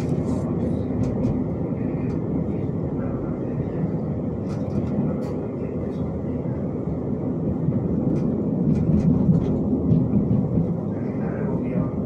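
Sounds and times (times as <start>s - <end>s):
tram wheels rumbling on rail: 0.0s - 12.0s.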